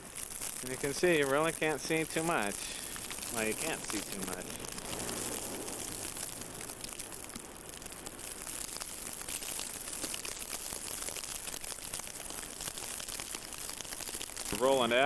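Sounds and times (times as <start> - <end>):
fine constant crackle: 0.0 - 15.0.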